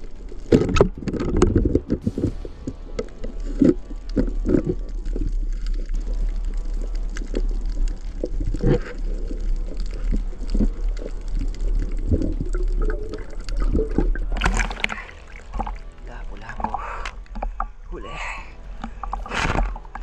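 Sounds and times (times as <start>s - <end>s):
water gurgling underwater: 0.0s - 17.9s.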